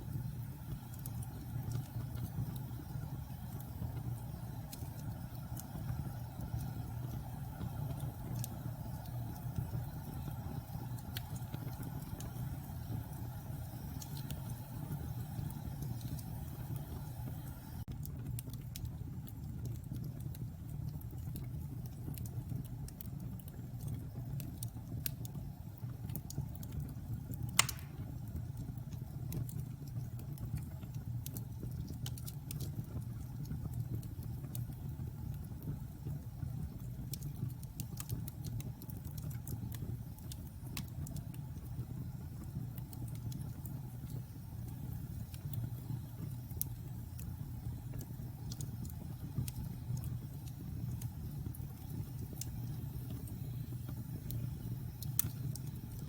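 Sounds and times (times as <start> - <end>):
fire crackling and popping: 0.0 - 56.0
low fire rumble: 0.0 - 56.0.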